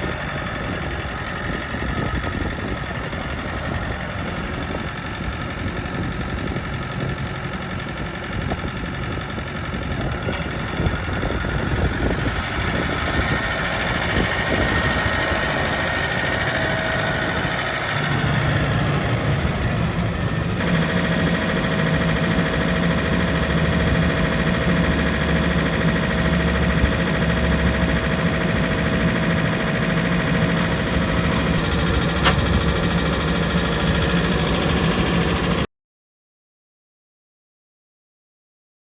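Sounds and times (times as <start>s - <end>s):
tractor diesel engine idling: 0.0s - 35.7s.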